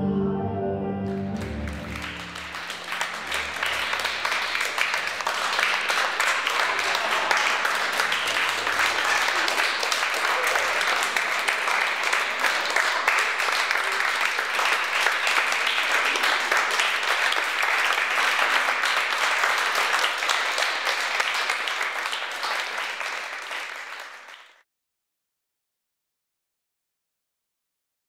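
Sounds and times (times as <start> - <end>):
audience applauding: 1.4 - 24.6.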